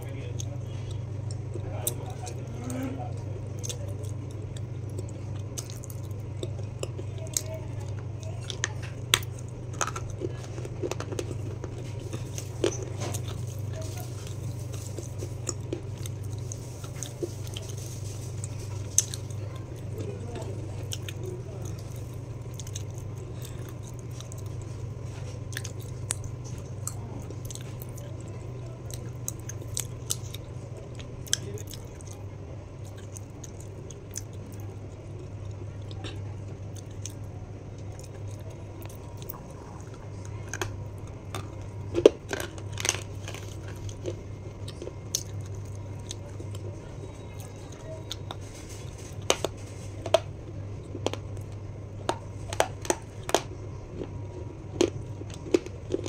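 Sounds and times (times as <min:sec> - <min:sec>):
person chewing and crunching: 0:00.0 - 0:56.0
steady low hum: 0:00.0 - 0:56.0.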